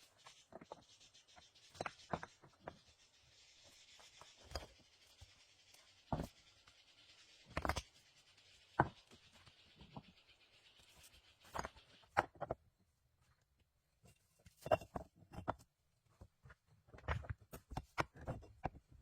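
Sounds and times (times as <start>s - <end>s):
knocks and scrapes of building material: 0.0s - 19.0s.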